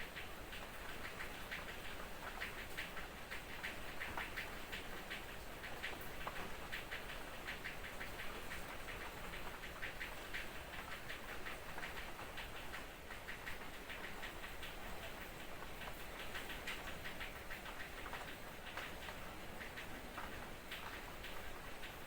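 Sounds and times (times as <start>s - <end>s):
raindrops tapping on a surface: 0.0s - 22.0s
soft rain hiss: 0.0s - 22.0s.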